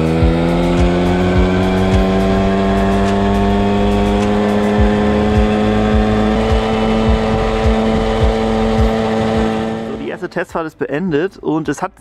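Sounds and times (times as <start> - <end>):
moped engine running: 0.0 - 10.7.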